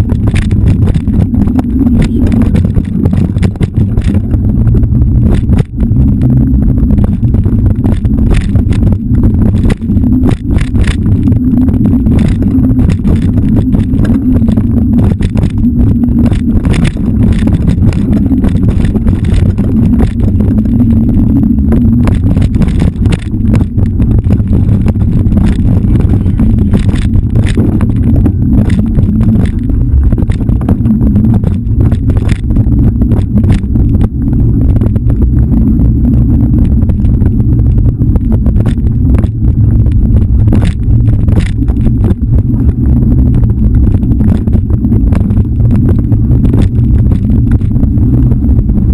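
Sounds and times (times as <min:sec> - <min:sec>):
rattles and knocks from bike: 0:00.0 - 0:48.9
wind buffeting microphone: 0:00.0 - 0:48.9.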